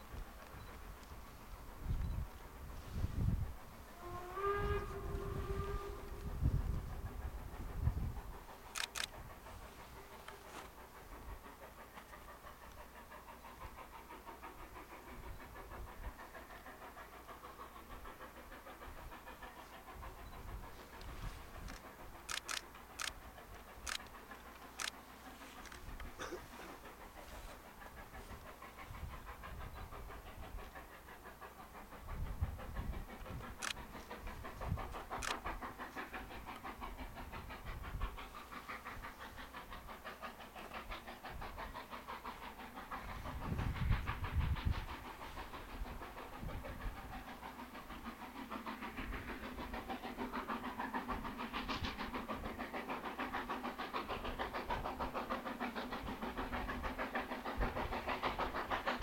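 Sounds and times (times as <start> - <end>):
steam locomotive exhaust chuffs: 0.0 - 59.0.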